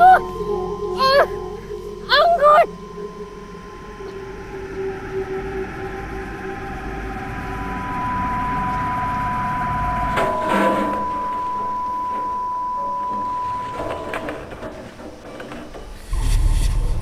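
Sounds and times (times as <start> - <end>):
high ringing tone: 0.0 - 15.1
low rumbling drone: 0.0 - 15.1, 16.0 - 17.0.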